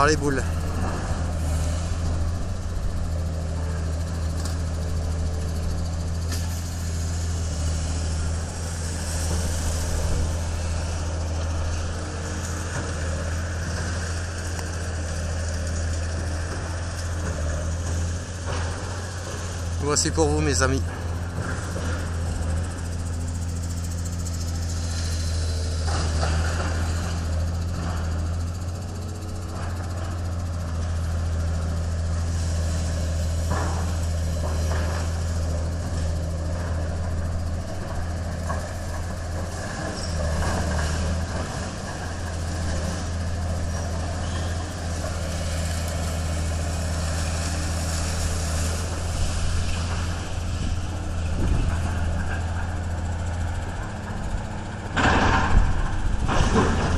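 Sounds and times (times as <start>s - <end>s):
excavator diesel engine humming: 0.0s - 56.9s.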